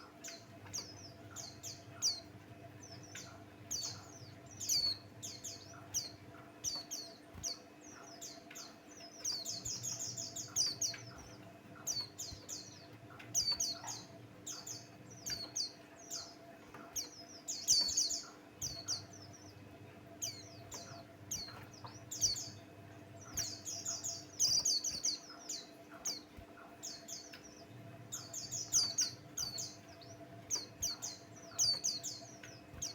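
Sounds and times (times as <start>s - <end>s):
faint steady hum: 0.0s - 32.9s
songbird chattering chirps and trills: 0.0s - 32.9s.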